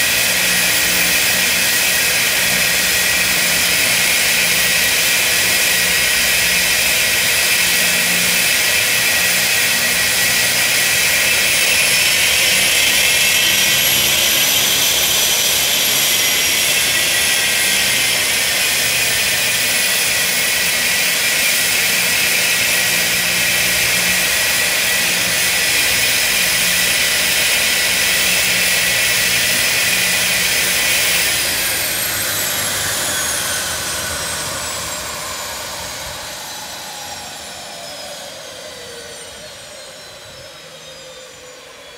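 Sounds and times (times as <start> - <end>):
turboprop engine whine: 0.0 - 41.9.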